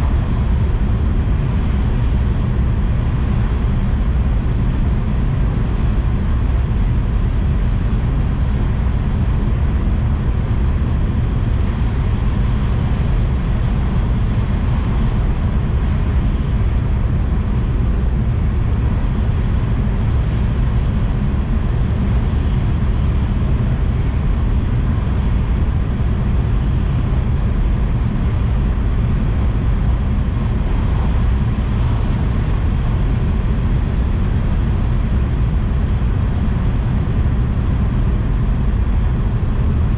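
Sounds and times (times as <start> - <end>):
faint high whine: 0.0 - 39.9.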